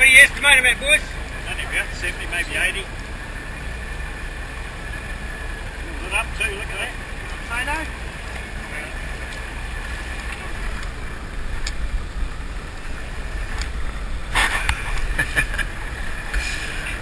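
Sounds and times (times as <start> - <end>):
motor boat engine rumble: 0.0 - 17.0
water noise: 0.0 - 17.0
wind: 0.0 - 17.0.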